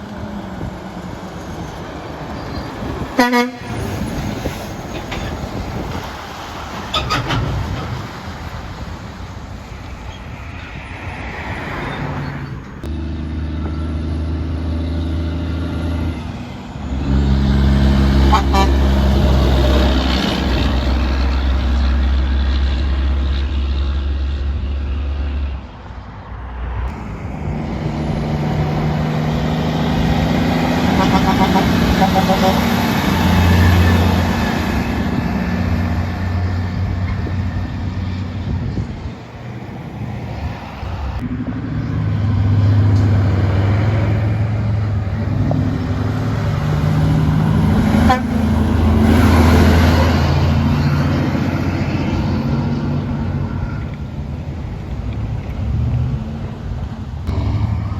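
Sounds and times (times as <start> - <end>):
vehicles passing: 0.0 - 57.9.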